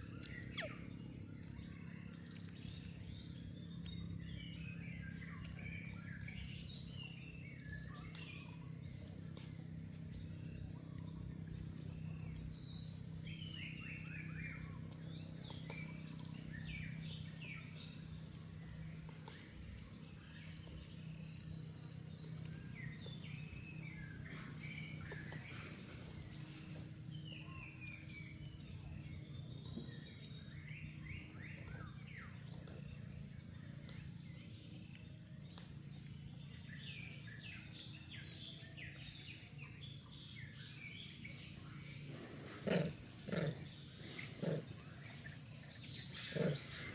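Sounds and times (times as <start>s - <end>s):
birds chirping: 0.0s - 46.9s
steady low hum: 0.0s - 46.9s.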